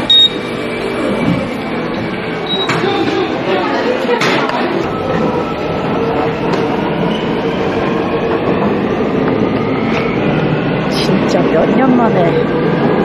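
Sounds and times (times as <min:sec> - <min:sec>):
subway train rumbling: 0:00.0 - 0:13.0
train hum: 0:00.0 - 0:13.0.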